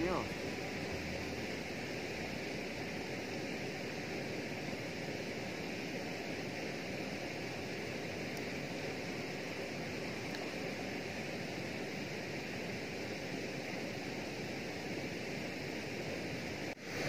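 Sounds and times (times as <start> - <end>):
rush of flowing water: 0.0 - 17.0.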